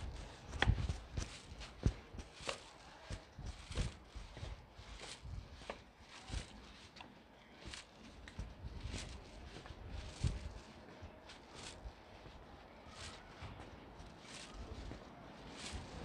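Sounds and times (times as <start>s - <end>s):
footsteps walking: 0.0s - 16.0s.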